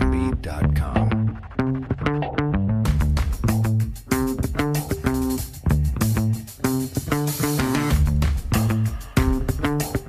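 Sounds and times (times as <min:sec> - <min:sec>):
bass and plucked-string music: 0:00.0 - 0:10.0
music beat: 0:00.0 - 0:10.0.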